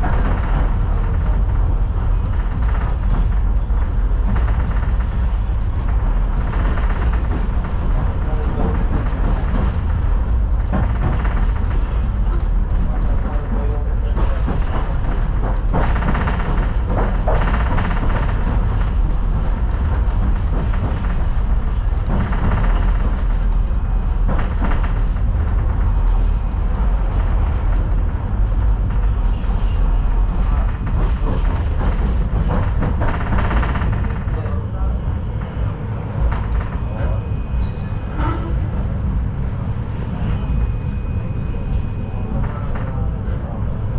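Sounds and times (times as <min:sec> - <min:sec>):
tram wheels rumbling on rails: 0:00.0 - 0:43.9.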